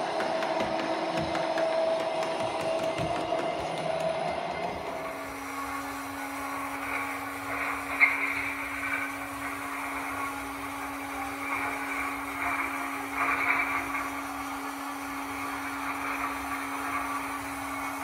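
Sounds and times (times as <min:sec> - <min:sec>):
small electric motor whirring: 0:03.6 - 0:18.0.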